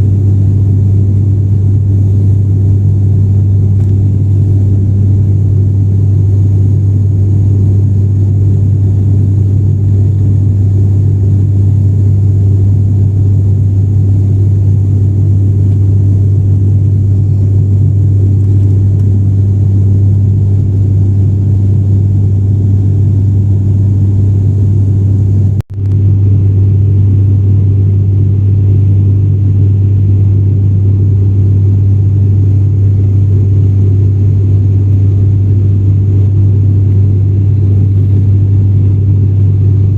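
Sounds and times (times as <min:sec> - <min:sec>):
airliner engines droning in cabin: 0:00.0 - 0:39.9.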